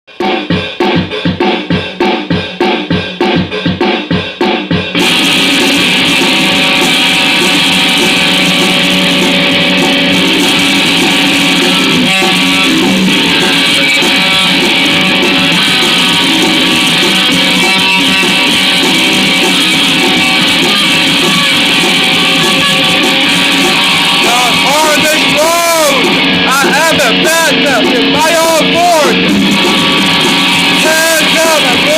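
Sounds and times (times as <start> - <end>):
rock band playing: 0.1 - 31.9
picked guitar riff: 4.9 - 31.9.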